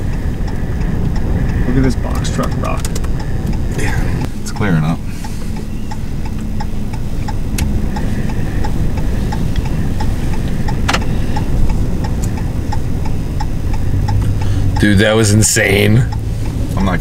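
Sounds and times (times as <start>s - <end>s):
sharp clicks: 0.0s - 3.8s, 4.4s - 17.0s
hazard flasher ticking: 0.0s - 17.0s
storm wind buffeting truck: 0.0s - 17.0s.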